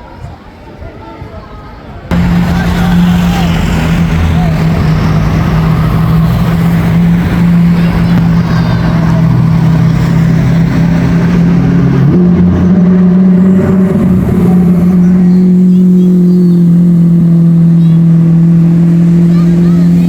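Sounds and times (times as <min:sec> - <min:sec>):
street noise: 0:00.0 - 0:20.0
car engine running: 0:02.1 - 0:20.0.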